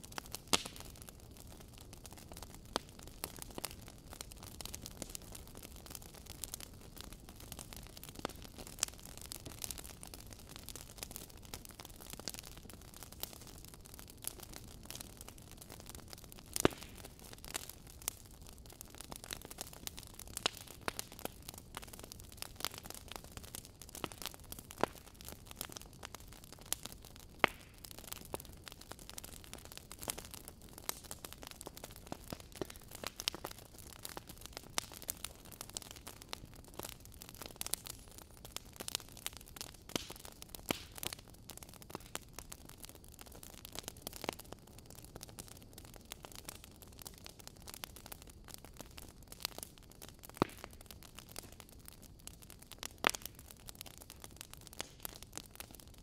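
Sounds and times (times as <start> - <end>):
fire hissing softly: 0.0 - 56.0
log fire crackling: 0.0 - 56.0.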